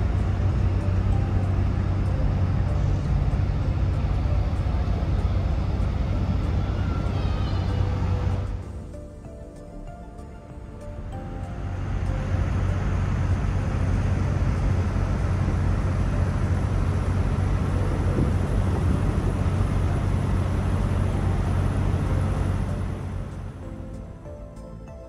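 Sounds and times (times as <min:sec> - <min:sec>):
vehicle engine hum: 0:00.0 - 0:24.8
road and wind noise: 0:00.0 - 0:25.0.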